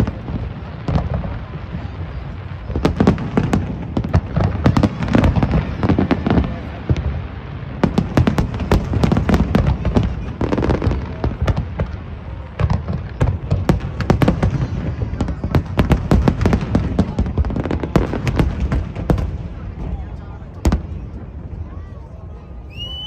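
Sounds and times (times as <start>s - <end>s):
fireworks cracking and banging: 0.0s - 23.0s.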